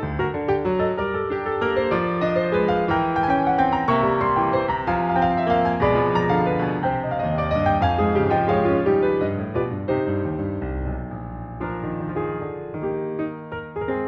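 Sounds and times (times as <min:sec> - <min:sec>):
solo piano melody: 0:00.0 - 0:14.0.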